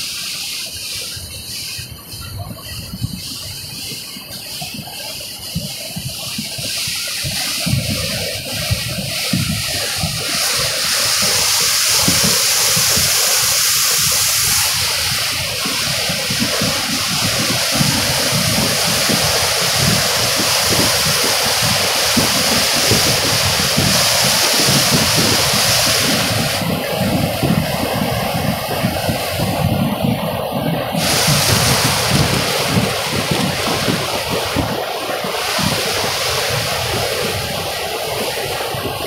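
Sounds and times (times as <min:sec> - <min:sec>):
floodwater rushing: 0:00.0 - 0:39.0.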